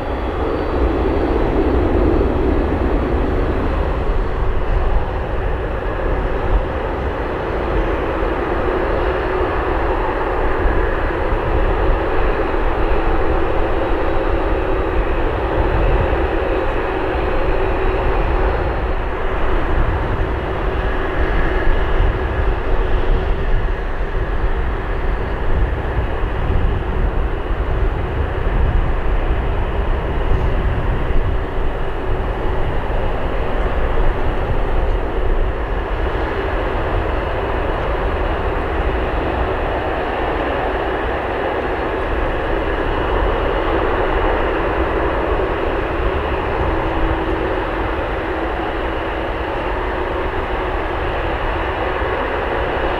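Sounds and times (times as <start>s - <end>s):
faint engine whine: 0.0s - 52.9s
jet engines rumbling: 0.0s - 52.9s.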